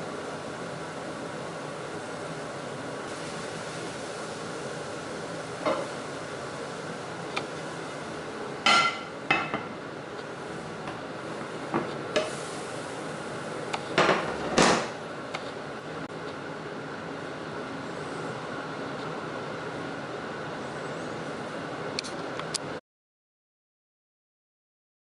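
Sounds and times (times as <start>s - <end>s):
steady hum: 0.0s - 22.8s.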